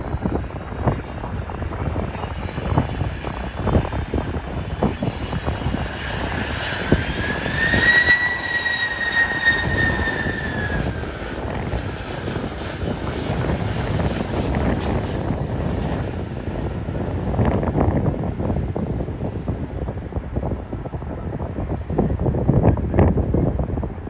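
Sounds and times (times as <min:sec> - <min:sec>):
jet engine whine: 0:00.0 - 0:24.0
wind buffeting microphone: 0:00.0 - 0:24.0.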